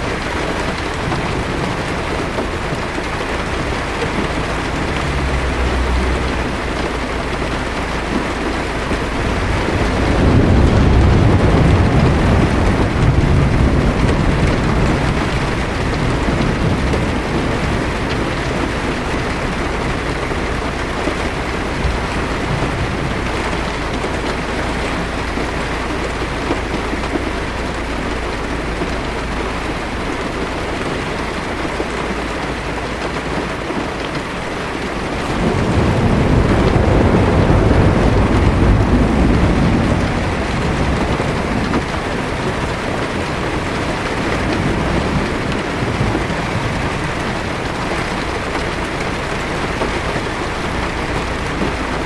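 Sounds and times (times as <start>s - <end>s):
low roll of thunder: 0.0s - 31.8s, 34.5s - 52.0s
heavy rain on windshield: 0.0s - 52.0s.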